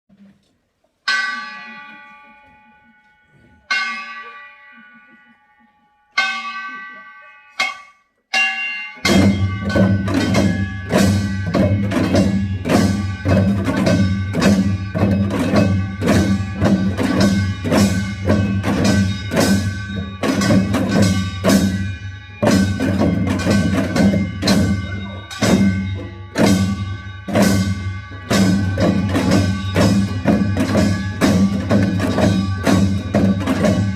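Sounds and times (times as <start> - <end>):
drums and gongs playing rhythm: 3.6 - 5.4, 6.1 - 33.9.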